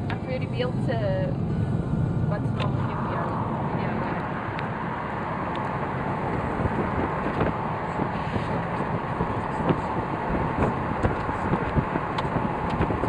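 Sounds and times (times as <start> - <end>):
car driving: 0.0 - 13.0
wind rushing over microphone: 0.0 - 13.0.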